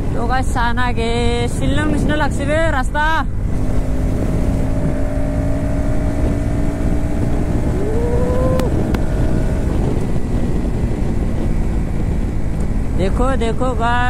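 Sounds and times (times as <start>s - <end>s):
motorcycle engine cruising: 0.0s - 14.0s
wind noise on microphone: 0.0s - 14.0s.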